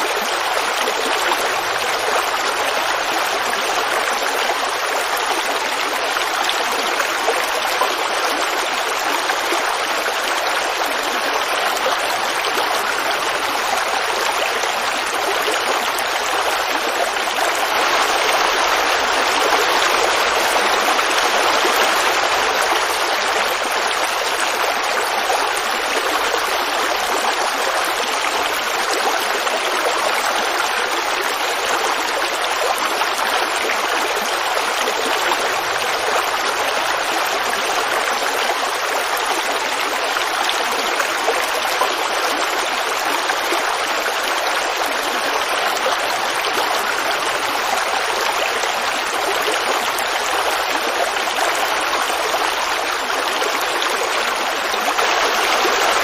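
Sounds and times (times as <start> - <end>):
creek babbling over rocks: 0.0 - 56.0.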